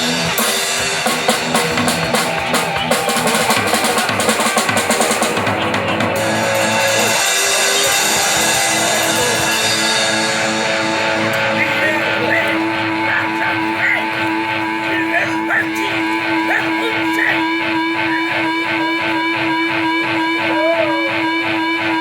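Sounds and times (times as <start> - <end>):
drum kit: 0.0 - 18.6
electric guitar: 0.0 - 22.0.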